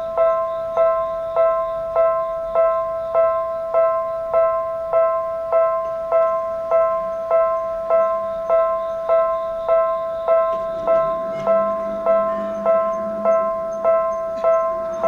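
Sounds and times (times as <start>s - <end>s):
level-crossing alarm dinging: 0.0s - 15.0s.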